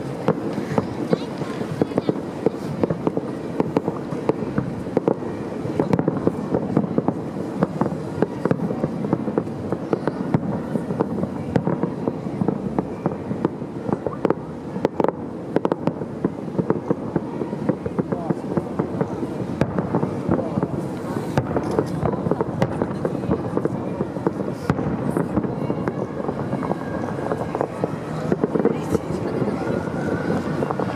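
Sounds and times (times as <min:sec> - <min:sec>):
fireworks bangs and crackling: 0:00.0 - 0:30.9.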